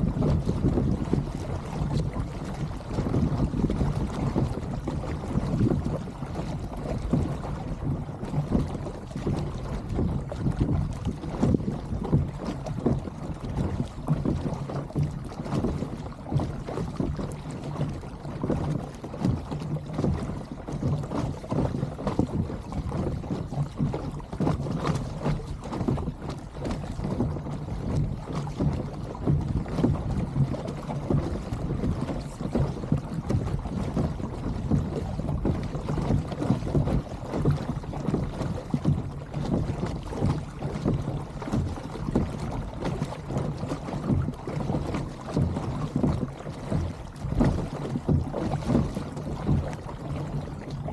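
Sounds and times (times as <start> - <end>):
wind buffeting microphone: 0.0 - 19.9, 21.0 - 50.9
water lapping against kayak hull: 0.0 - 50.9.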